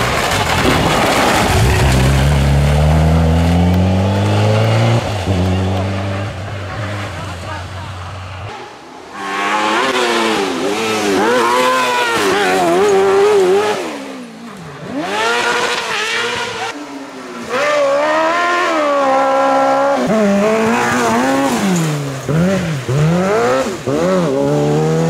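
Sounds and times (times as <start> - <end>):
buggy engines revving: 0.0 - 25.0.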